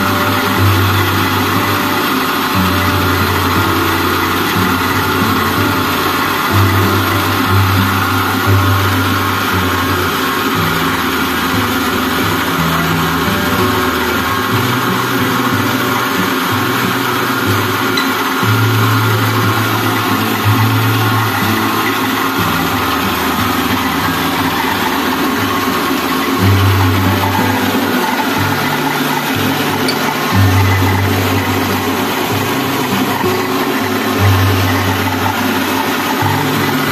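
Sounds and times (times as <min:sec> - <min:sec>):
grain pouring from chute: 0:00.0 - 0:36.9
rice mill rushing noise: 0:00.0 - 0:36.9.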